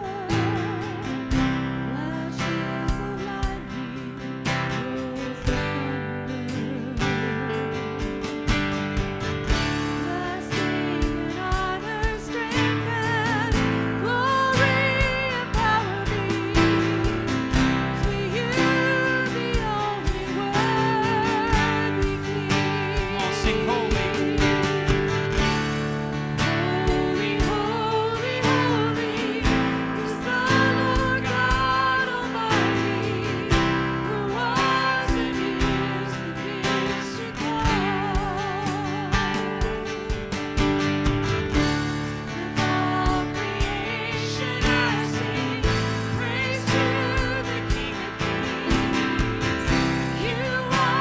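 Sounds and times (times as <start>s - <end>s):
person singing with vibrato: 0.0s - 7.8s, 9.6s - 39.9s, 42.1s - 51.0s
held bass notes: 0.0s - 51.0s
strummed guitar: 0.0s - 51.0s
steady drum beat: 2.6s - 5.8s, 7.0s - 51.0s.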